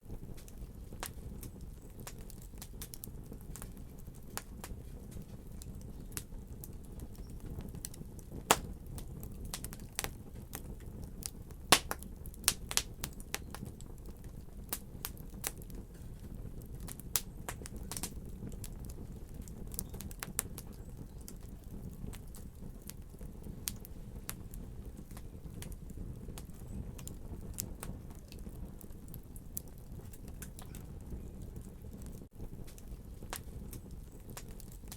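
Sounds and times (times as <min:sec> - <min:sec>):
low rumble of flame: 0:00.0 - 0:34.9
wood fire crackling: 0:00.0 - 0:34.9.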